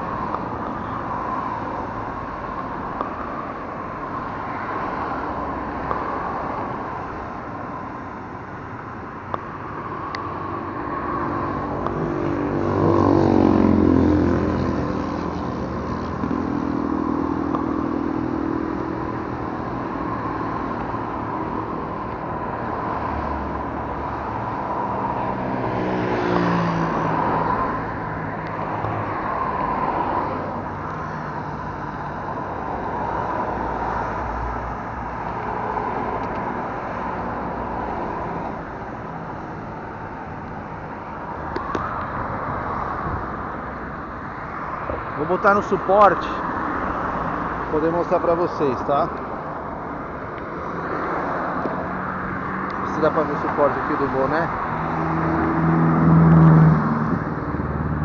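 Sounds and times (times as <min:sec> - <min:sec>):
loud vehicles passing: 0:00.0 - 0:58.0
traffic drone: 0:00.0 - 0:58.0.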